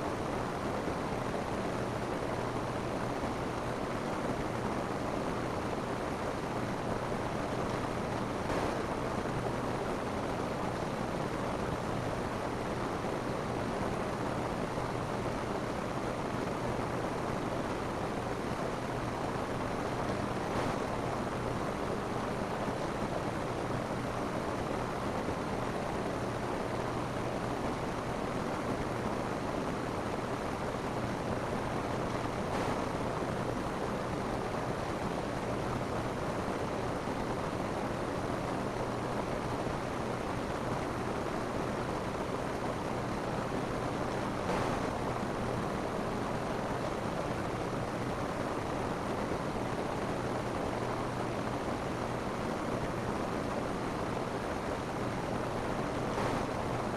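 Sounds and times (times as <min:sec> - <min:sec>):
rain falling on a roof: 0:00.0 - 0:56.9.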